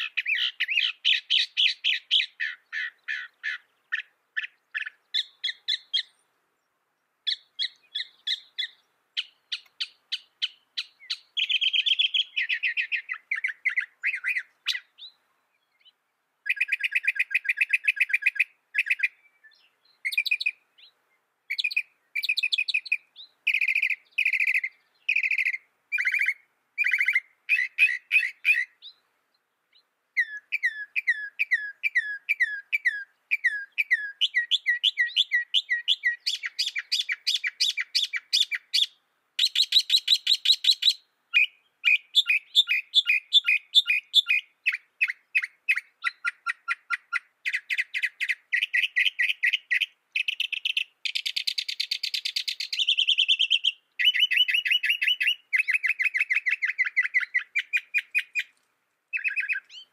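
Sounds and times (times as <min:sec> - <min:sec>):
mockingbird singing: 0:00.0 - 0:06.4, 0:07.2 - 0:59.9.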